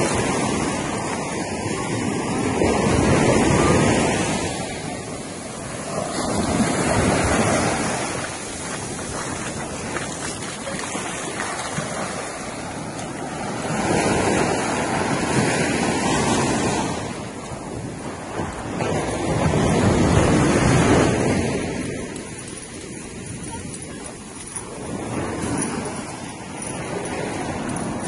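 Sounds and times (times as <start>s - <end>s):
waves washing onto beach: 0.0s - 28.0s
wind buffeting microphone: 0.0s - 28.0s.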